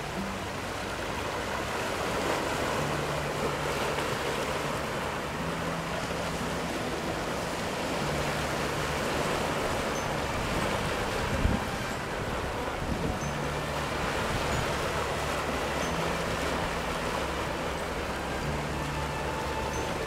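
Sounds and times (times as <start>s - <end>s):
waves breaking over rocks: 0.0s - 20.0s.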